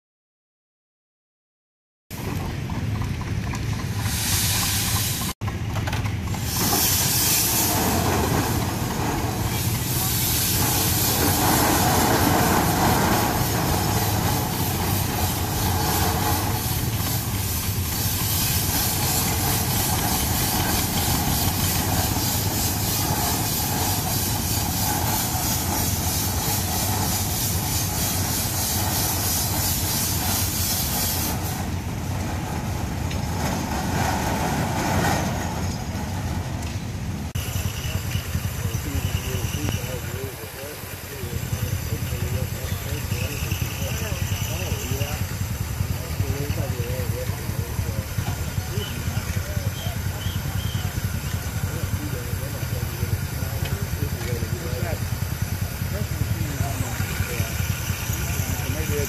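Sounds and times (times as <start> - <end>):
steam traction engine running: 2.1 - 59.0
steam hissing: 3.6 - 59.0.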